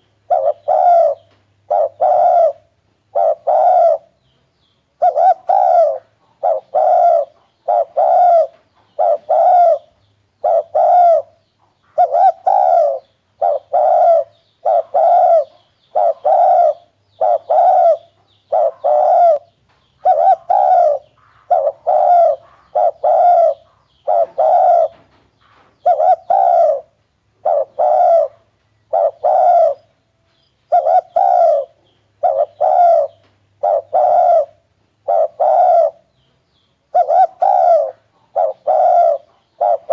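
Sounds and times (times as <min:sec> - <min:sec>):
dove cooing: 0:00.0 - 0:04.2, 0:05.0 - 0:30.0, 0:30.7 - 0:36.1, 0:36.9 - 0:39.9.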